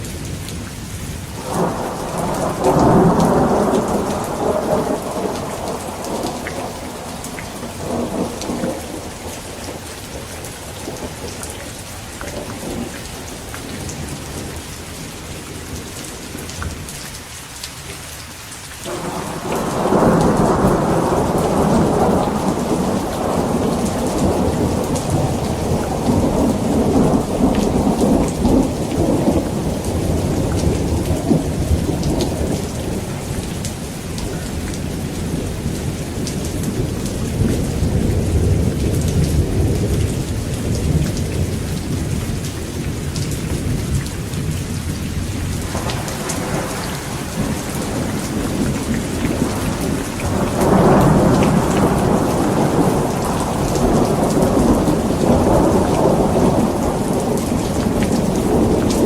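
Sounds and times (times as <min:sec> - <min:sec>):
heavy rain falling: 0:00.0 - 0:59.0
thunder rumbling: 0:01.4 - 0:15.8, 0:18.9 - 0:59.0.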